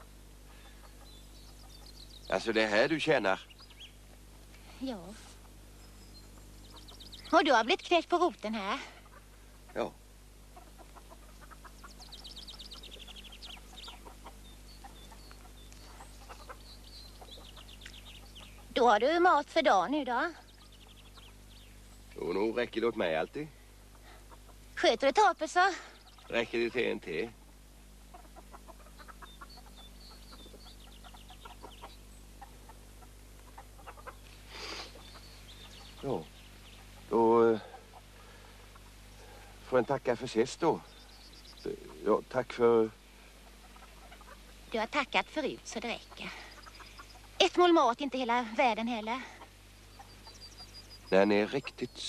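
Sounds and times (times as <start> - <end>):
hens clucking: 0.0 - 3.5, 4.2 - 21.5, 22.1 - 52.0
songbird trilling: 0.0 - 4.0, 4.6 - 10.0, 10.6 - 27.4, 28.1 - 52.0
low steady hum: 0.0 - 52.0
small birds chirping: 0.0 - 52.0.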